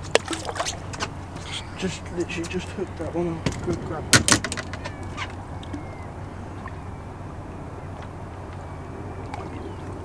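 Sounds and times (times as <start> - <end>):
faint bird calls: 0.0 - 10.0.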